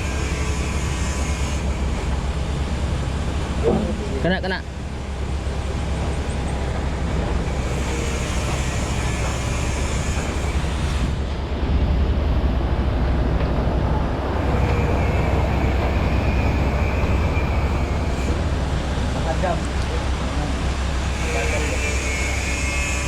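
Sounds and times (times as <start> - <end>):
engine rumbling: 0.0 - 23.0.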